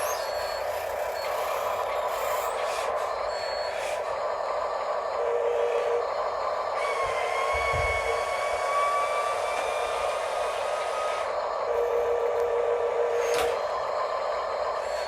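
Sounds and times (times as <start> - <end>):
electric motors and hydraulic pumps whining: 0.0 - 15.0.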